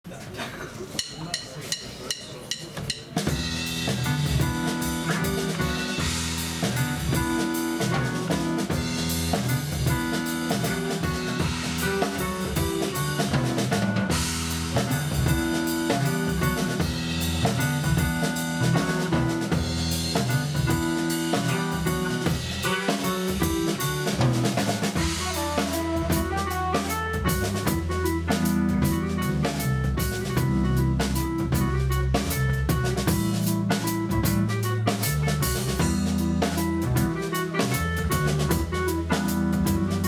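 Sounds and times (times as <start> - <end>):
drum kit: 0.1 - 40.0
live band playing dance tune: 1.0 - 40.0.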